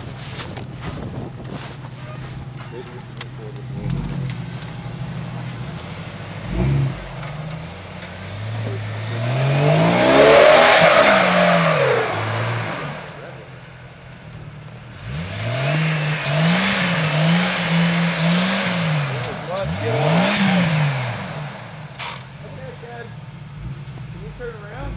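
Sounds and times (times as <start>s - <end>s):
car engine revving under load: 0.0s - 24.9s.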